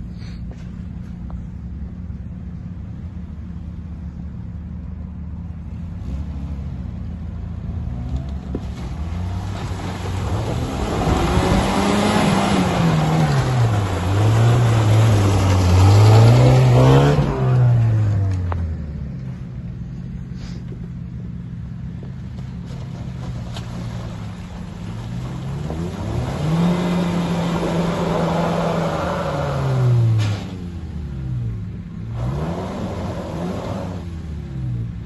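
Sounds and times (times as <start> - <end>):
car engine revving: 3.0 - 20.6, 23.6 - 35.0.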